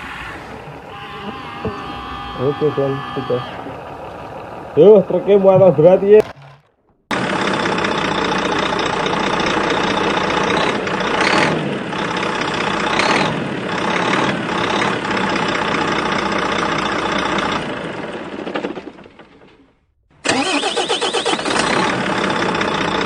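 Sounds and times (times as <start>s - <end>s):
diesel engine running and revving: 0.0s - 23.0s.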